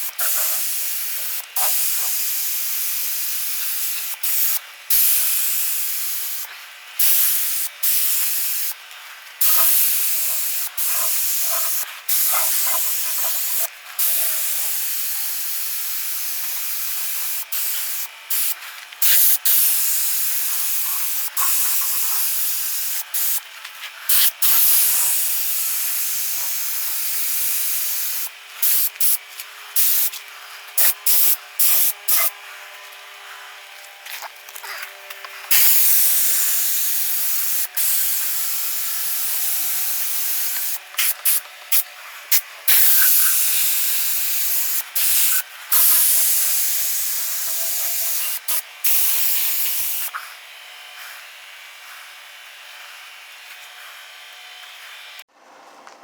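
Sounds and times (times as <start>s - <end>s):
paint spray gun hissing: 0.0s - 32.4s, 35.4s - 50.2s.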